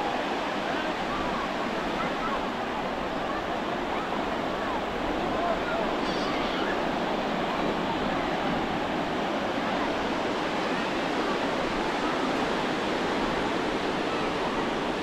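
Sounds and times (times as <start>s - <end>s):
faint voices of people: 0.0s - 15.0s
ocean surf washing onto beach: 0.0s - 15.0s.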